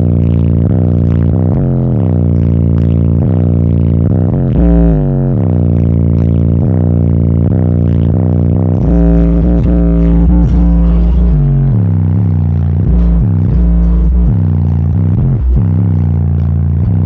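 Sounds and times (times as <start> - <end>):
bass-heavy music from subwoofer: 0.0 - 17.0.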